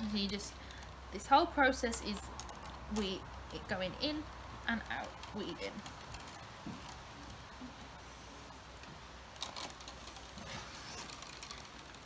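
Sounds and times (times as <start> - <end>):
willow rods rubbing and clicking: 0.0 - 12.0.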